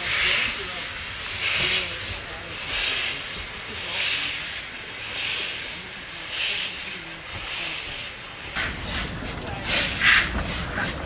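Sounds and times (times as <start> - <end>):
steam locomotive hiss bursts: 0.0 - 11.0.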